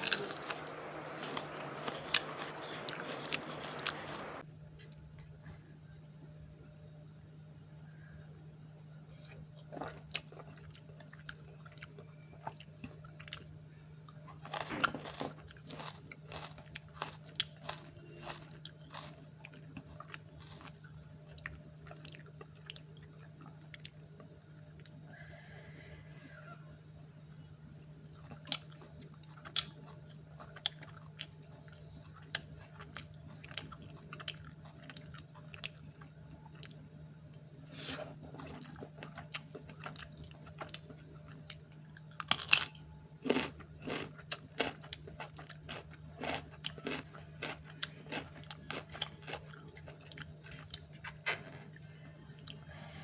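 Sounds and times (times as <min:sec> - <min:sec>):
person chewing crunchy food: 0:00.0 - 0:05.8, 0:09.3 - 0:13.5, 0:14.1 - 0:25.0, 0:27.8 - 0:36.8, 0:37.6 - 0:53.0
steady low hum: 0:00.0 - 0:53.0.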